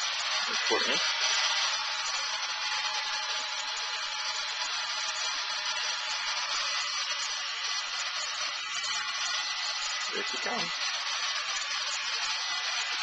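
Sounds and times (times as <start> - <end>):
hairdryer running: 0.0 - 13.0.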